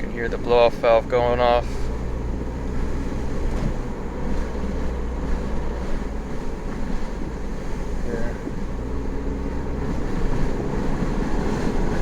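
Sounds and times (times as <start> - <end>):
car engine and road rumble in cabin: 0.0 - 12.0.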